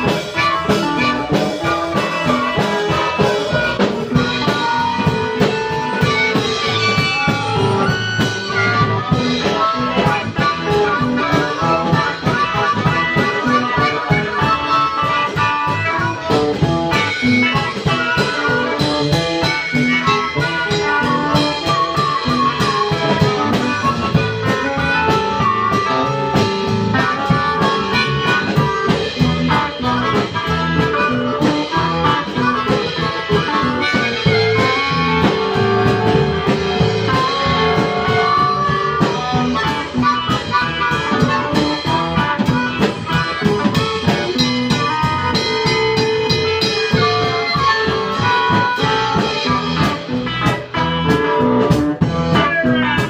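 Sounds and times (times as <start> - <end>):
harmonica bending notes: 0.0 - 53.0
live blues band: 0.0 - 53.0.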